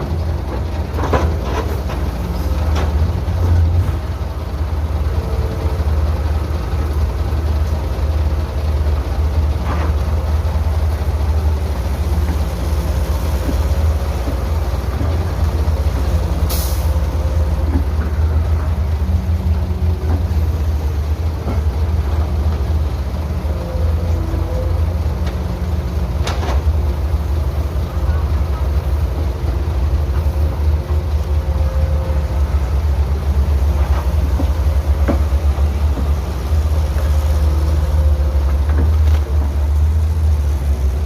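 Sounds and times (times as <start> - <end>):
diesel engine rumbling: 0.0 - 41.0.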